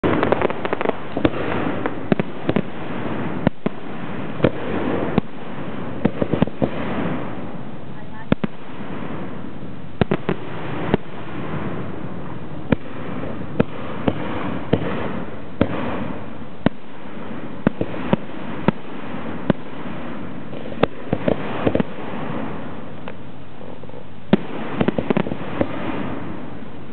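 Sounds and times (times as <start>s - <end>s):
firework shells bursting: 0.0s - 26.7s.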